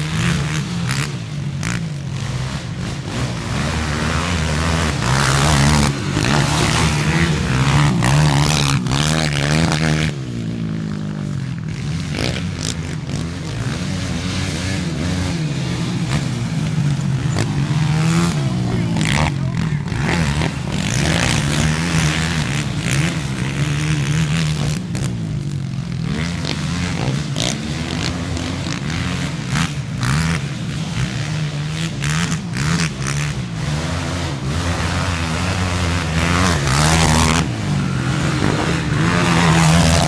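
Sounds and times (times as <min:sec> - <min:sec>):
quad engines revving: 0:00.0 - 0:40.0.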